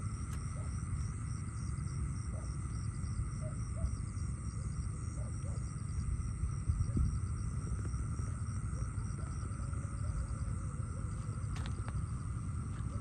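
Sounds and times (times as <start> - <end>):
constant low rumble: 0.0 - 13.0
crickets trilling: 0.0 - 13.0.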